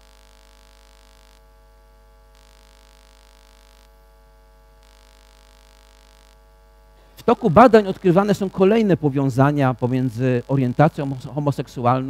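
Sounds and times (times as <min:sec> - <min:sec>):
electrical mains hum: 0:00.0 - 0:12.0
faint steady tones: 0:00.0 - 0:12.0.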